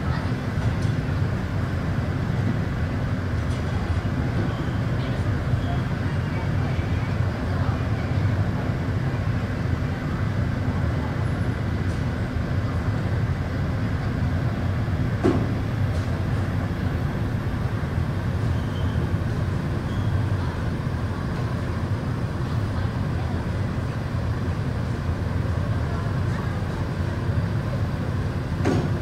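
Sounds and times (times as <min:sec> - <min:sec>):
fans rushing air with low hum: 0:00.0 - 0:29.0.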